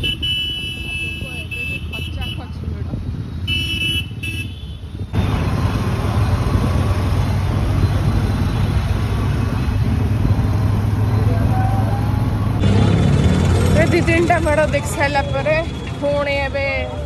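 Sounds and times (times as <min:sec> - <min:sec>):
engine and wind rush: 0:00.0 - 0:17.0.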